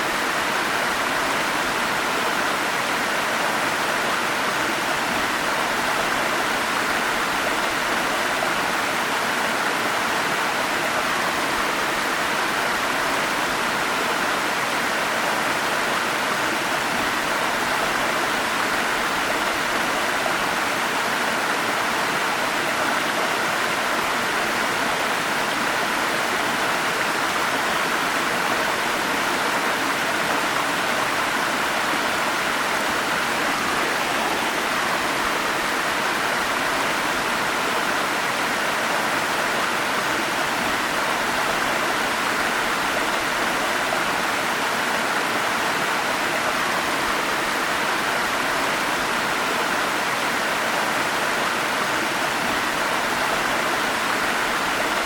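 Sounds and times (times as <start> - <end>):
stream flowing over cascades: 0.0 - 55.0.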